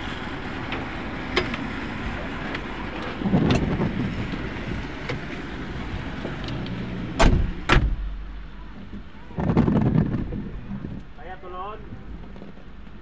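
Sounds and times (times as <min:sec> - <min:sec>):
traffic on wet road: 0:00.0 - 0:13.0.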